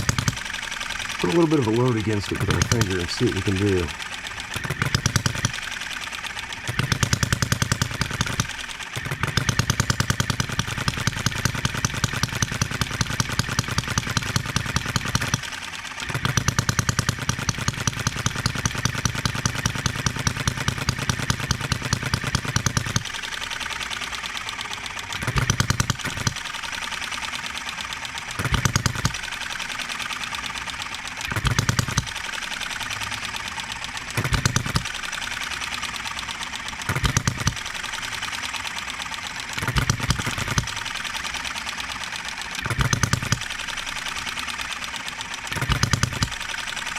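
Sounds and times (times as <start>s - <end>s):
model engine firing: 0.0s - 46.9s.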